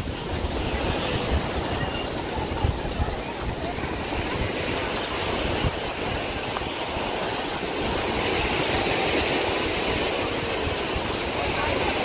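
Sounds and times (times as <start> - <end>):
surf washing up a beach: 0.0 - 12.0.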